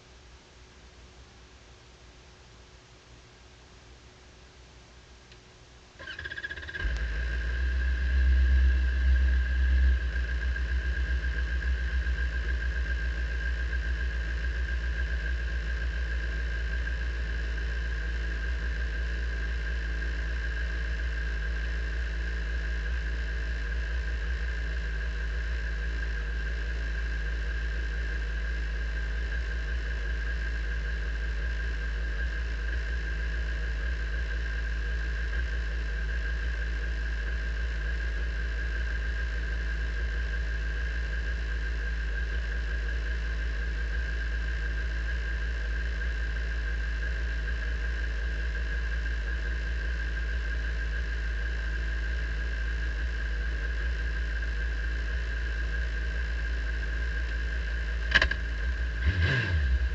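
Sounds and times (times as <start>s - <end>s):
high-pitched whine: 5.9s - 59.9s
race car engine idling: 6.0s - 50.4s, 53.3s - 59.9s.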